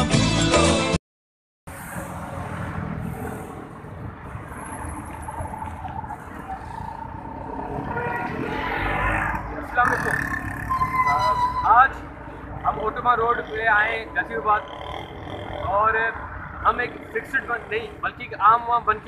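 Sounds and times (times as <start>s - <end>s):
road traffic passing: 1.7s - 19.0s.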